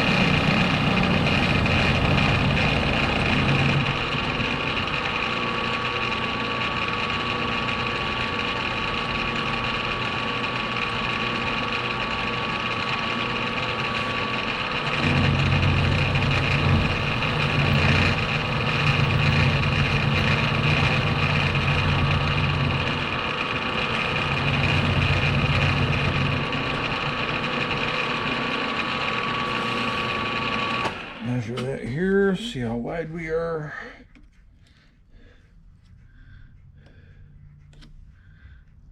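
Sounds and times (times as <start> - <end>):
metal-cutting machine whine: 0.0 - 33.0
heavy low rumble of cutting: 0.0 - 34.6.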